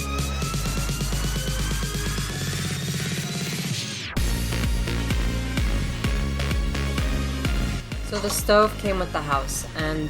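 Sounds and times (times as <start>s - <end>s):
electronic music: 0.2s - 9.2s.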